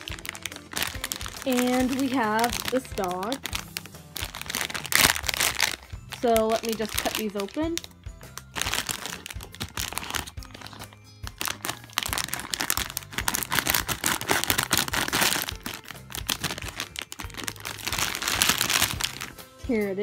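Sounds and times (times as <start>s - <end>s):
plastic bag crinkling: 0.0s - 19.4s
background music: 0.0s - 20.0s.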